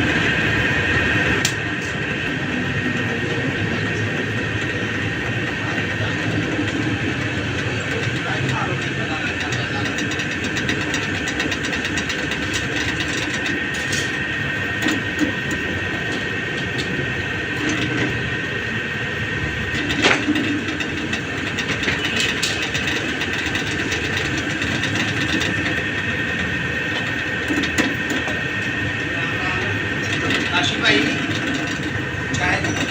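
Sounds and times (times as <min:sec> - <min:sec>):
machine running with high whine: 0:00.0 - 0:32.9.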